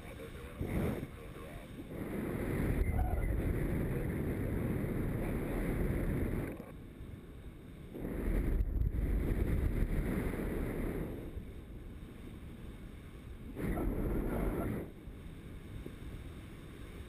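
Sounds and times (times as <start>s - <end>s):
wind buffeting microphone: 0.0s - 7.0s, 7.7s - 17.0s.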